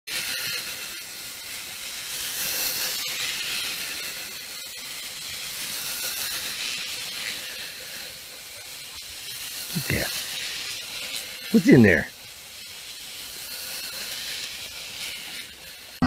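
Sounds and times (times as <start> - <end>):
high-pitched hiss: 0.1 - 16.0.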